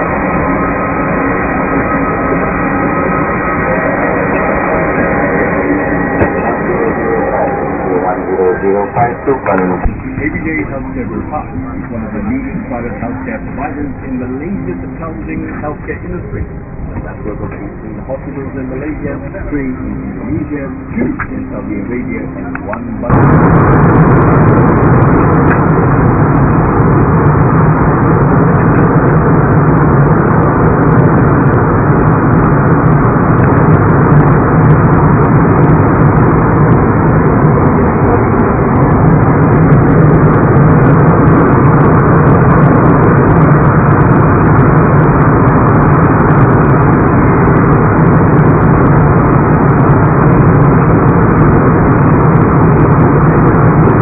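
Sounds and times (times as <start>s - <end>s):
jet engine roar in cabin: 0.0s - 54.0s.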